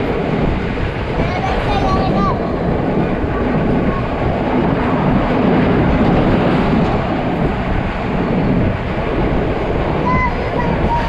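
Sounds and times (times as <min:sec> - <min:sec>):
passenger train rumbling at speed: 0:00.0 - 0:11.0.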